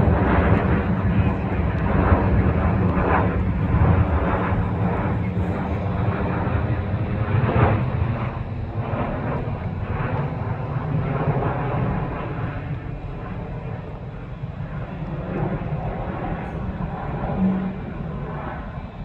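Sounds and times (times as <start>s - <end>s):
airliner engines droning: 0.0s - 19.0s.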